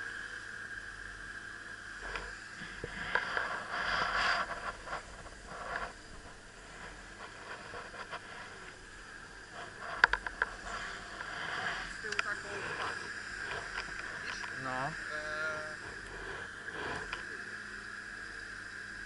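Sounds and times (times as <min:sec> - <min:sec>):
wind hiss and rustling: 0:00.0 - 0:19.0.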